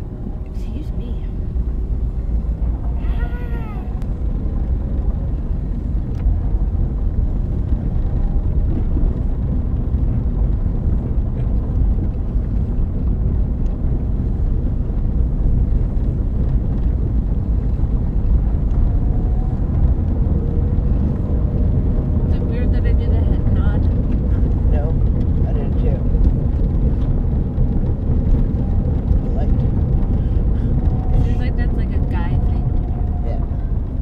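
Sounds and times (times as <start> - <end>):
car wheel rumble and drone: 0.0 - 34.0.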